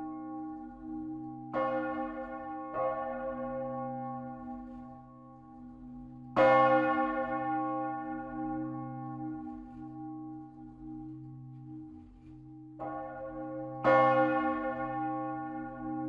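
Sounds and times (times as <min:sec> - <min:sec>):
large church bell ringing: 0:00.0 - 0:16.0.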